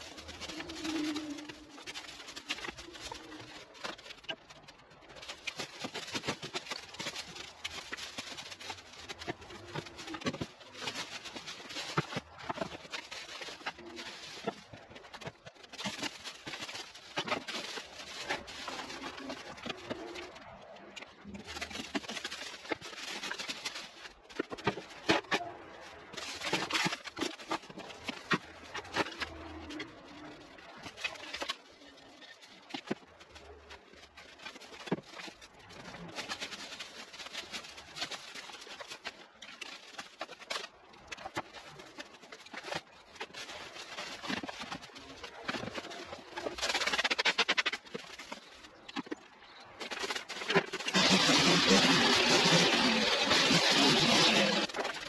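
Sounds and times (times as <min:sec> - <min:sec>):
leaves and stems rustling: 0:00.0 - 0:55.0
vines and twigs being torn down: 0:00.0 - 0:55.0.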